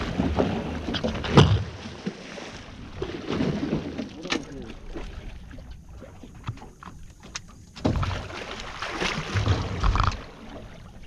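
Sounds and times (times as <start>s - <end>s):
water splashing against boat: 0.0s - 11.0s.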